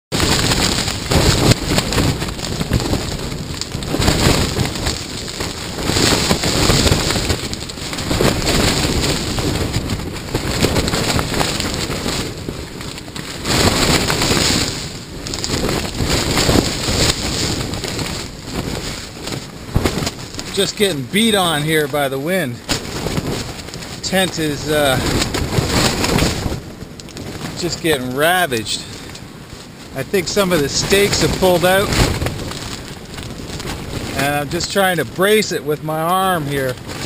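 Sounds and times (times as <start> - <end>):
gusting wind: 0.1 - 37.0
tent fabric flapping: 0.1 - 37.0.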